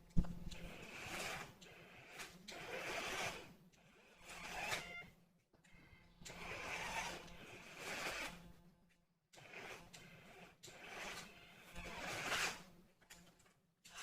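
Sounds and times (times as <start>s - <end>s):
toy car electric motors whirring: 0.4s - 8.6s, 9.3s - 14.0s.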